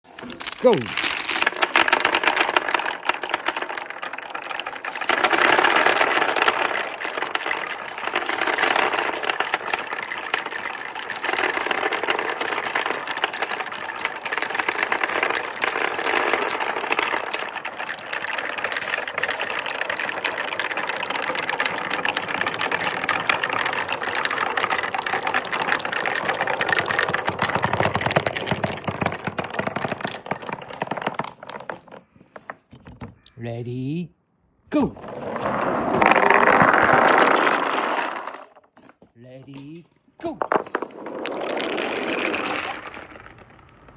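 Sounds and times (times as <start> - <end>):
wooden balls rattling down marble run: 0.1 - 33.4, 34.7 - 43.9.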